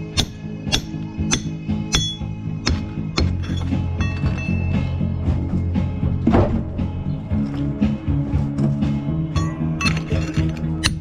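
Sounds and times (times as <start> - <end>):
background music with bass notes: 0.0 - 11.0.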